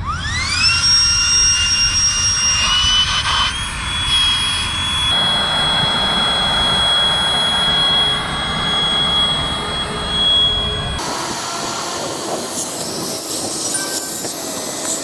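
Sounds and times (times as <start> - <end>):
electric air pump whining: 0.0 - 15.0.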